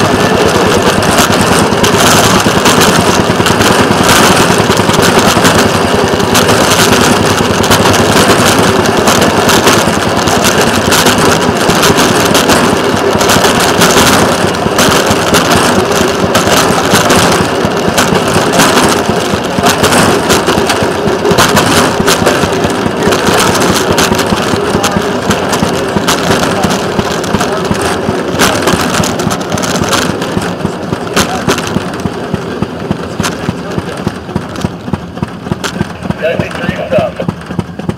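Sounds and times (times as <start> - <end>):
rail motorcar engine rattling: 0.0 - 37.9.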